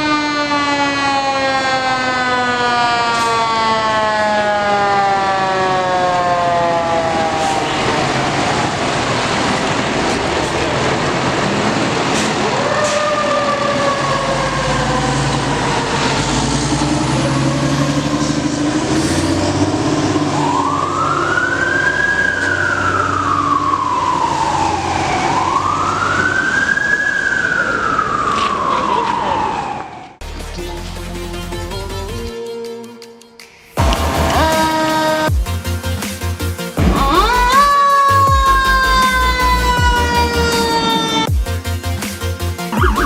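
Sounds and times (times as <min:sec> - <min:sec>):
truck engines rumbling: 0:00.0 - 0:32.4, 0:33.8 - 0:43.0
fire truck sirens wailing: 0:00.0 - 0:43.0.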